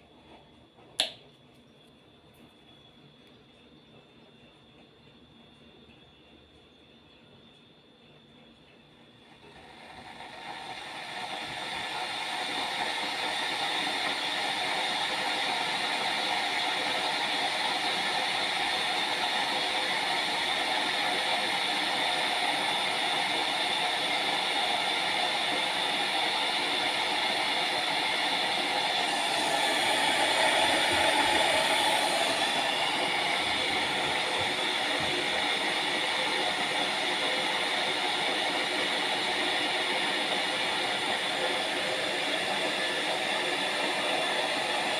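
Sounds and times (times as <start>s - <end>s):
electric kettle heating water: 0.0s - 44.9s.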